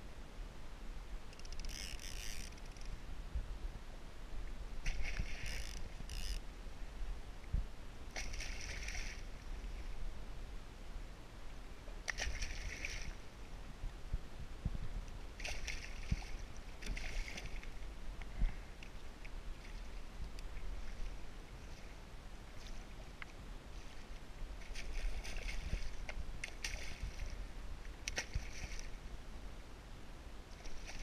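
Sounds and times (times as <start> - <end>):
steady low rumble: 0.0 - 1.6, 2.5 - 12.1, 13.1 - 30.6.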